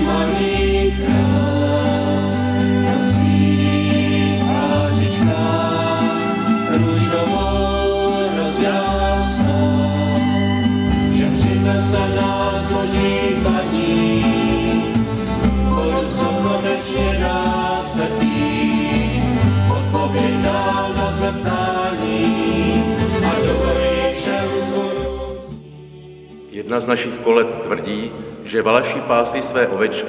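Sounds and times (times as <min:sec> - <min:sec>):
double bass: 0:00.0 - 0:26.6
group singing: 0:00.0 - 0:27.0
acoustic guitars: 0:00.0 - 0:30.0.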